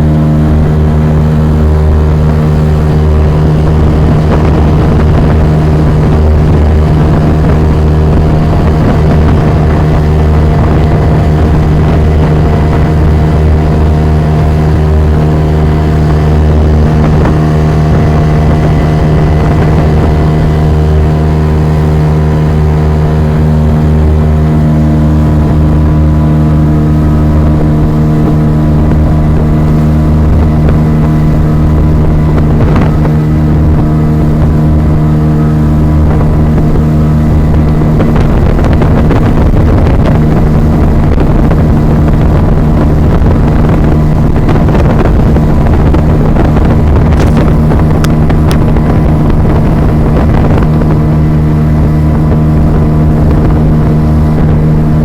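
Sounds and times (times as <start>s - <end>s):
motorboat engine running: 0.0s - 55.0s
rushing wind and water: 0.0s - 55.0s.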